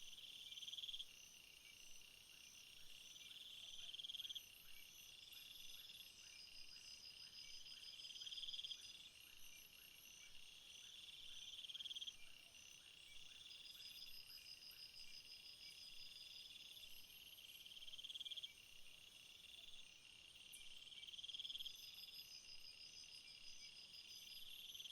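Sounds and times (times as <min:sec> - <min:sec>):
night insects trilling: 0:03.3 - 0:24.9.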